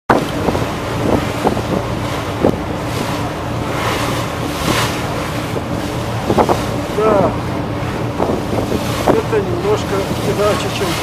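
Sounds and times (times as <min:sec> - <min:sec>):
rush of choppy water: 0:00.1 - 0:11.0
ship engine drone: 0:00.1 - 0:11.0
wind buffeting microphone: 0:00.1 - 0:11.0.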